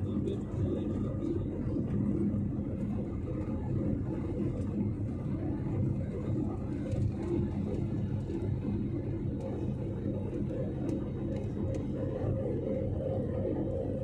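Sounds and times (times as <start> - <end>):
jet engines and airflow rumble: 0.0 - 14.0.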